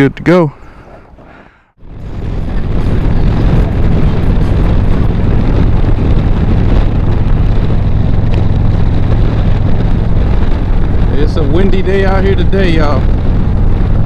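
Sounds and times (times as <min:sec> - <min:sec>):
wind rushing over microphone: 0:00.0 - 0:14.0
motorcycle engine running: 0:01.8 - 0:14.0.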